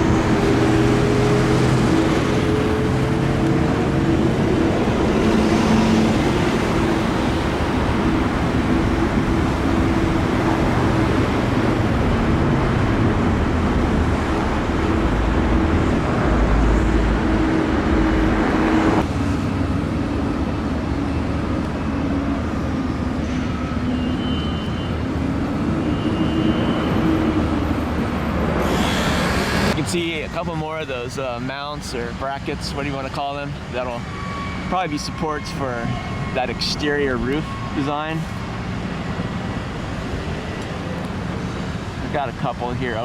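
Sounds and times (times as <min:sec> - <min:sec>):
engine drone: 0:00.0 - 0:43.0
traffic hum: 0:00.0 - 0:43.0.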